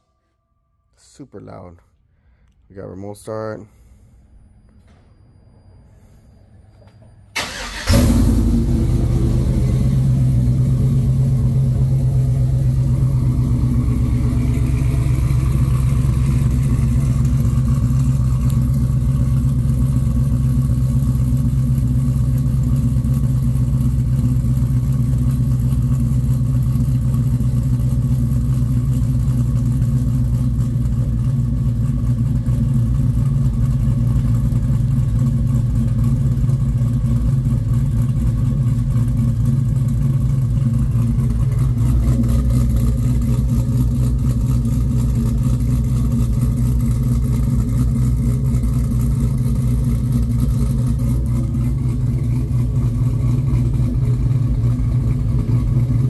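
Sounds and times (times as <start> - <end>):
truck engine idling: 6.8 - 56.0.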